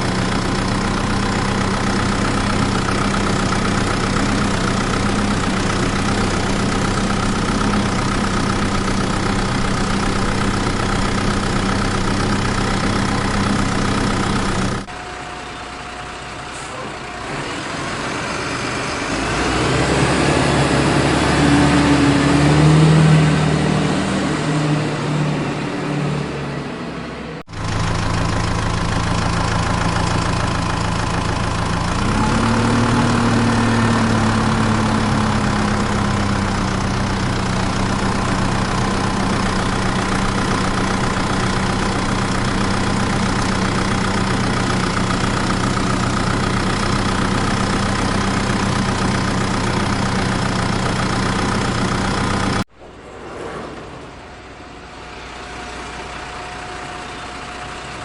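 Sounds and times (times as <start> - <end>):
vehicle engine idling and revving: 0.0 - 53.0, 54.0 - 58.0.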